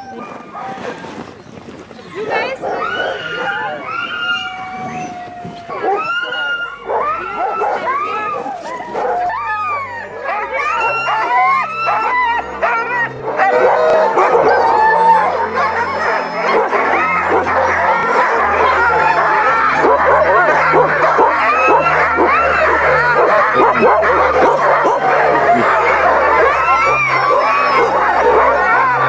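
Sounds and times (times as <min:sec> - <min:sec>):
dogs yipping and howling: 0:00.0 - 0:29.0.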